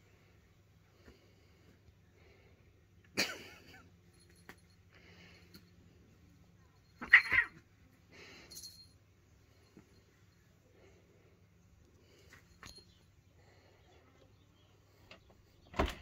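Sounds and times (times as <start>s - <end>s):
cats play-fighting: 0.0s - 15.6s.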